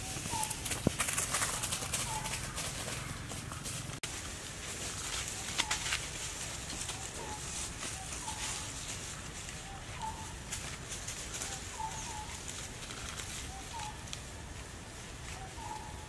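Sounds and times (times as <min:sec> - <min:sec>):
monkeys rustling dry leaves: 0:00.0 - 0:16.0.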